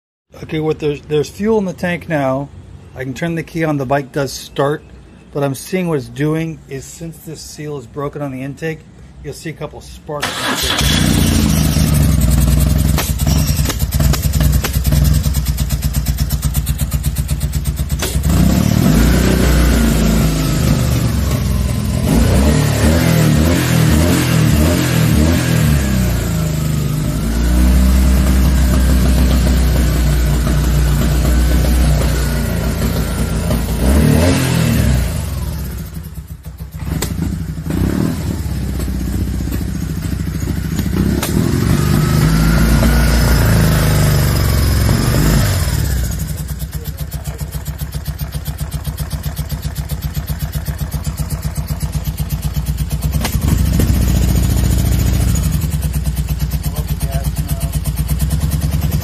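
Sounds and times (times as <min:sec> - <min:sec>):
motorcycle engine revving: 0:10.2 - 0:59.0.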